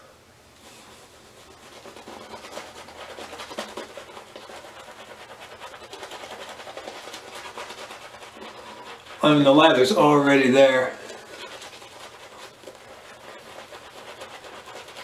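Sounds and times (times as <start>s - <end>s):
shaving brush scrubbing stubble: 0.7s - 15.0s.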